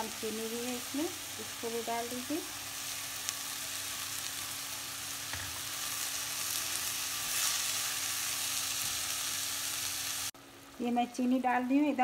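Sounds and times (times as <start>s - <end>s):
food sizzling in a pan: 0.0s - 11.4s.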